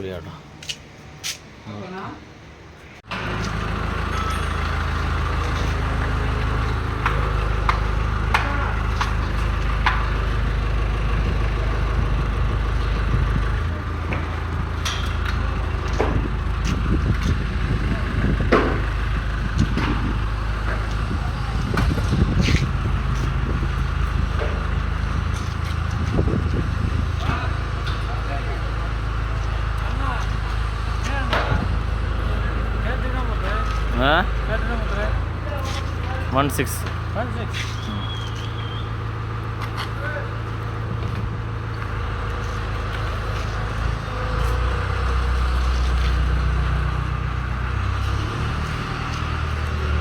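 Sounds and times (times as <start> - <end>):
diesel truck engine running: 2.3 - 50.0.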